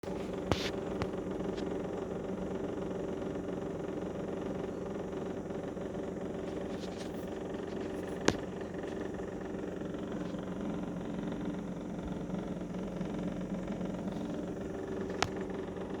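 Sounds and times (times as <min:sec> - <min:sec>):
refrigerator compressor humming: 0:00.0 - 0:16.0.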